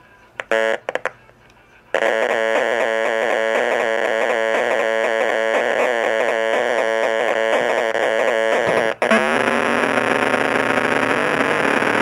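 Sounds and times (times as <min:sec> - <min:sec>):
speaker electronic buzz: 0:00.4 - 0:01.2, 0:01.9 - 0:12.0.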